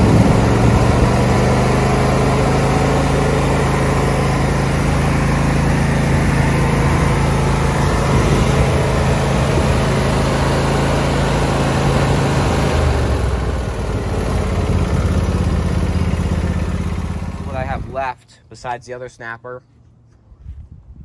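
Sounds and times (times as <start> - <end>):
lawn tractor engine idling: 0.0 - 18.1.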